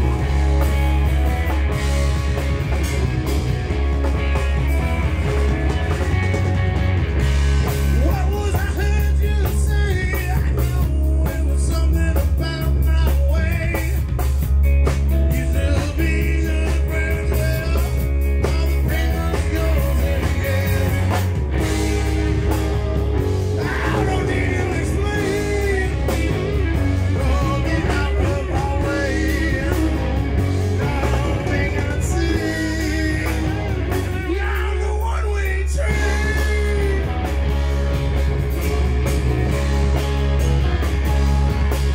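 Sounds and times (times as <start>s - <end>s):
live blues-rock band: 0.0s - 41.9s.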